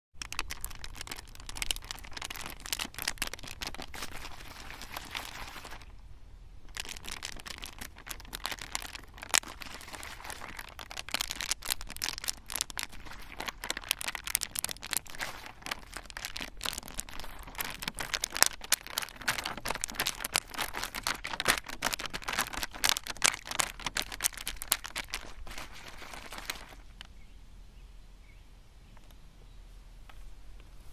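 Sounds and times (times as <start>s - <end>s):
scratchy clicks and crackles: 0.1s - 5.9s, 6.7s - 27.1s.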